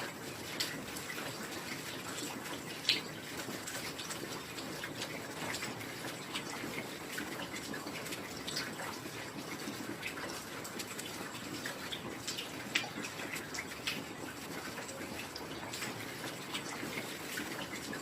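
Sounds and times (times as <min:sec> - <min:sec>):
raindrops pattering: 0:00.0 - 0:18.0.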